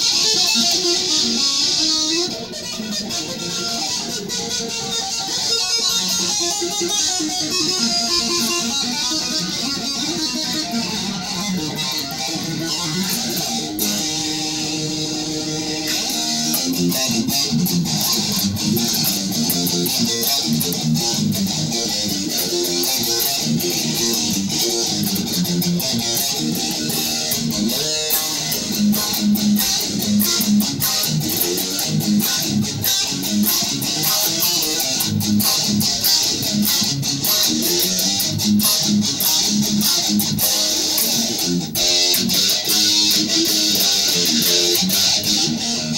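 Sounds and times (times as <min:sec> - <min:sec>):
guitar picked and strummed: 0:00.0 - 0:45.9.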